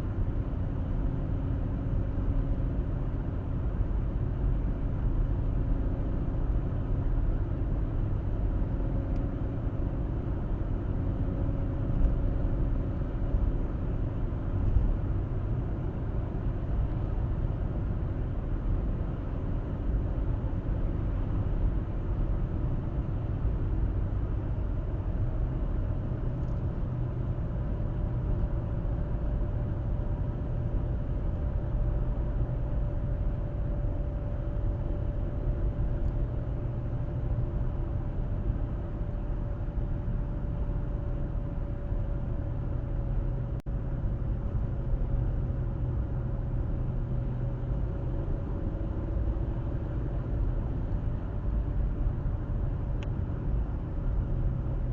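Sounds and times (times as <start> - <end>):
car tyre and engine rumble: 0.0 - 54.9.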